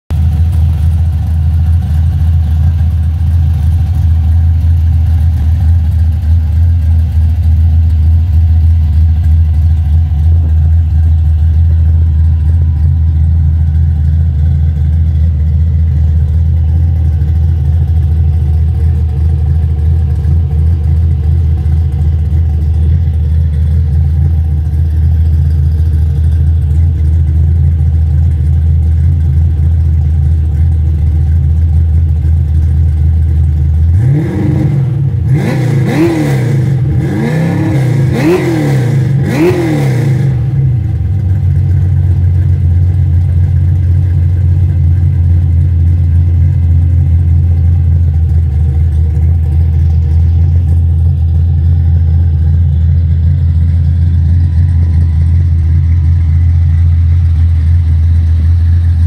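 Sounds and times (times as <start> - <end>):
car engine idling: 0.1 - 59.0.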